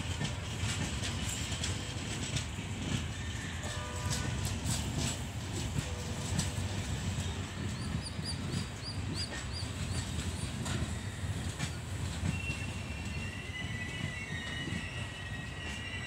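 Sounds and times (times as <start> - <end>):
train wheel clicks: 0.0 - 15.8
train coaches rumbling past: 0.0 - 16.0.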